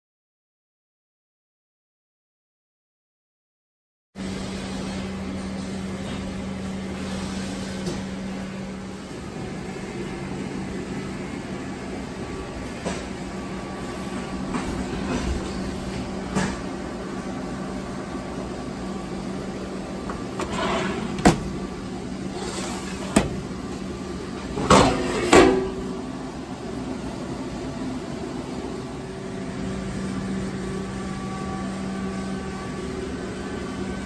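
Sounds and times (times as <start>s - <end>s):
machine hum: 4.2s - 34.0s.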